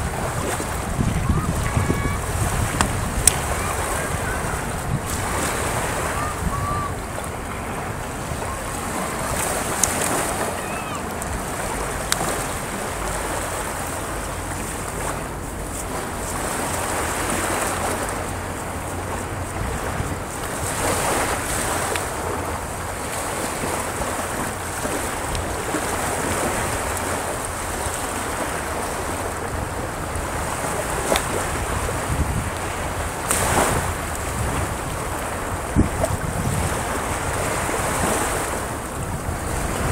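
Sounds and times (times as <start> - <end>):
waves breaking on beach: 0.0 - 39.9
wind rumbling on microphone: 0.0 - 39.9.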